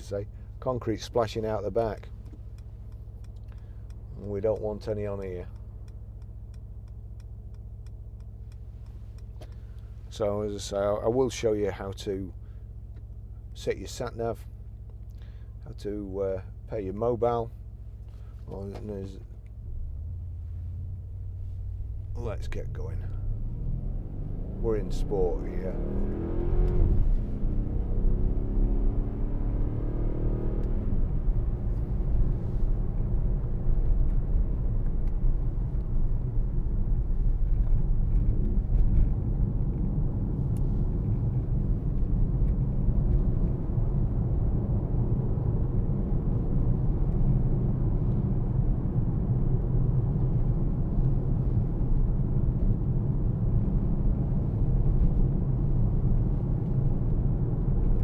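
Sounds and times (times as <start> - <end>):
road noise: 0.0 - 15.9, 16.5 - 58.0
car engine rumbling: 0.0 - 58.0.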